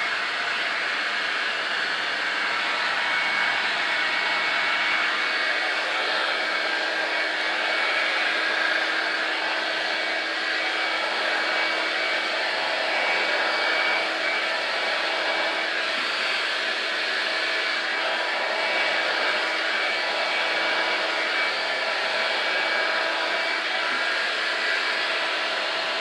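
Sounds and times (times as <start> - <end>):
hair dryer blowing air: 0.0 - 26.0.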